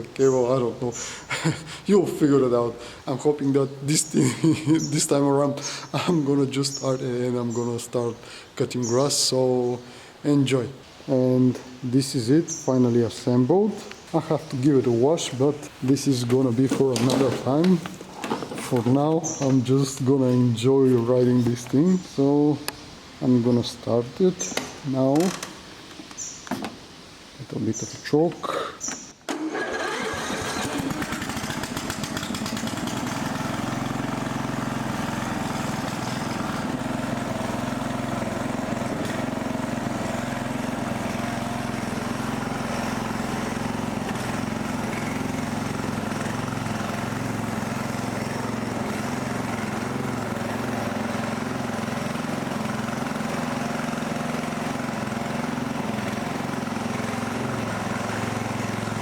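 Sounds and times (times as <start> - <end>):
mower engine starting and running: 0.0 - 22.3, 29.3 - 59.0.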